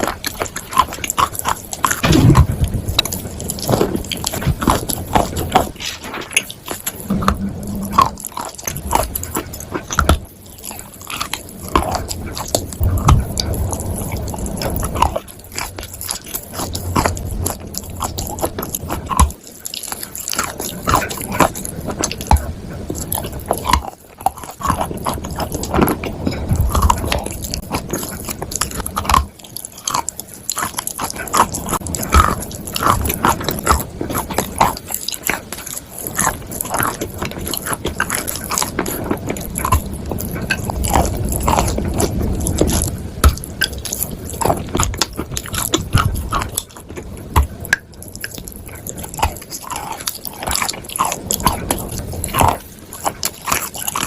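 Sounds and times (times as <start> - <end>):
crunchy biting and chewing: 0.0 - 54.0.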